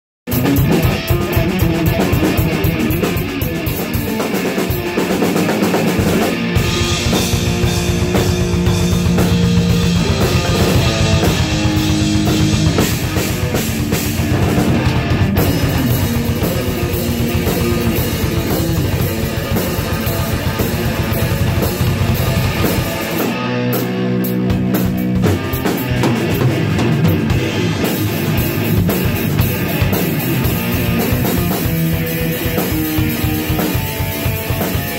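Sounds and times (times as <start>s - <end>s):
electric guitar: 0.3s - 34.9s
fast heavy drumming: 0.3s - 34.9s.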